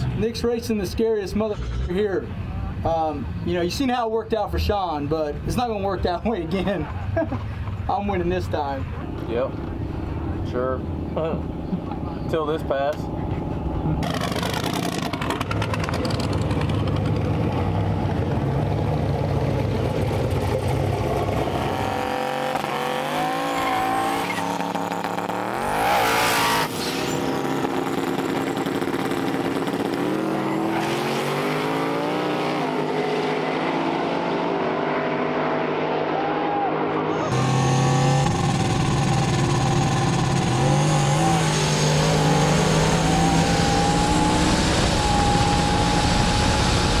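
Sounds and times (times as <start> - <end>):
drag car engines revving: 5.0 - 47.0.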